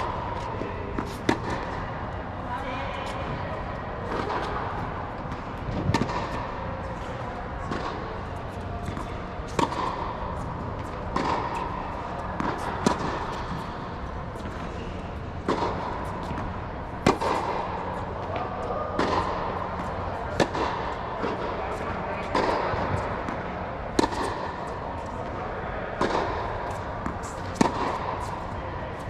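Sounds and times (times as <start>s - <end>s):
tennis balls struck by racquets: 0.0s - 29.0s.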